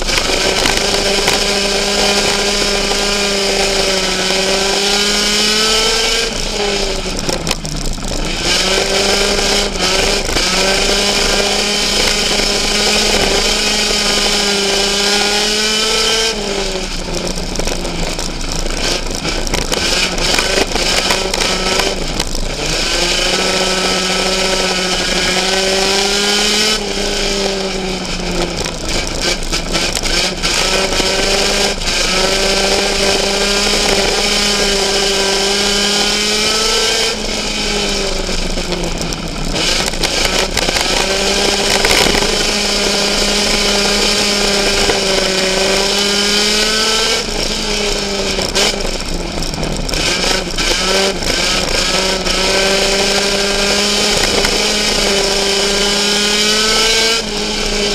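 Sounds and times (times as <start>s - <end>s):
race car engine running hard: 0.0s - 57.9s.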